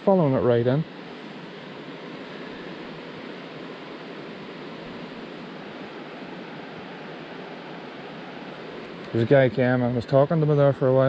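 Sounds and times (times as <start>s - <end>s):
river water rushing over shallows: 0.9s - 11.0s.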